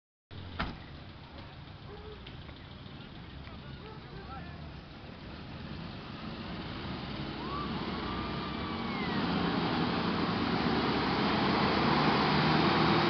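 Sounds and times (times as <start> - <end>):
off-road engines running hard: 0.4 - 13.0.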